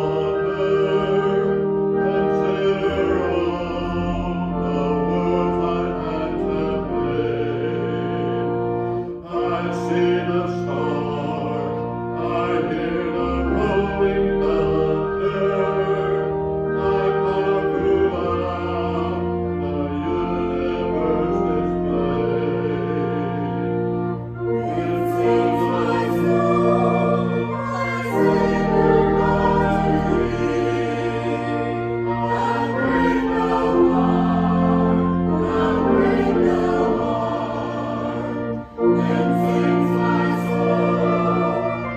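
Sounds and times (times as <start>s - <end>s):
slow sacred music with singing: 0.0s - 41.9s.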